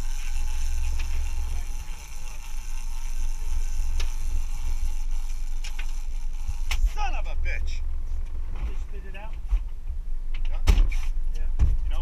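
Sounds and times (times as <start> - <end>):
boat engines rumbling: 0.0 - 10.3.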